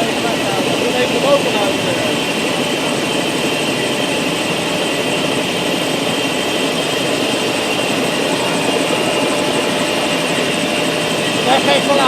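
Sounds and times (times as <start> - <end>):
helicopter cabin drone: 0.0 - 12.0
high turbine whine: 0.0 - 12.0.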